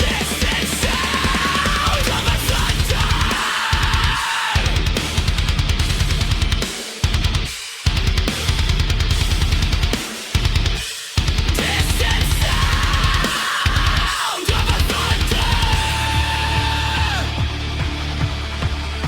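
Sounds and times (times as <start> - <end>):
heavy metal music: 0.0 - 19.0.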